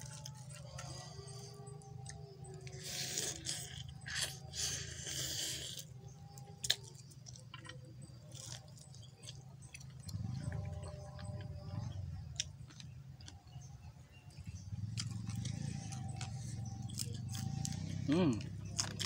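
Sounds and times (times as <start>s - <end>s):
person chewing: 0.0s - 13.5s, 14.9s - 19.0s.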